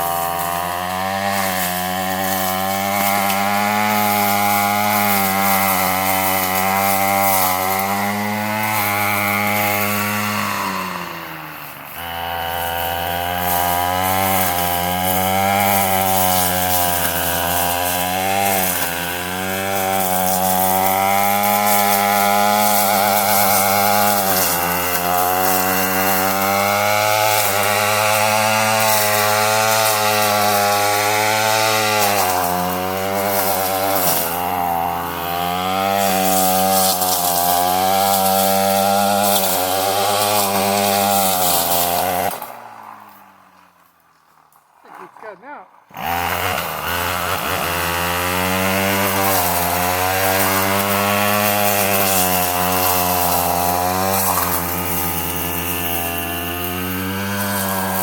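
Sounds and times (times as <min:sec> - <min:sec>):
weed eater cutting heavy brush: 0:00.0 - 0:58.0.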